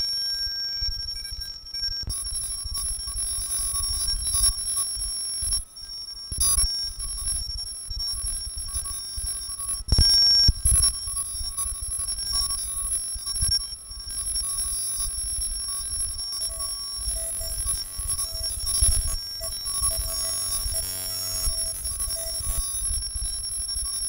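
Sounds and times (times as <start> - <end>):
high piercing ringing tones: 0.0 - 24.0.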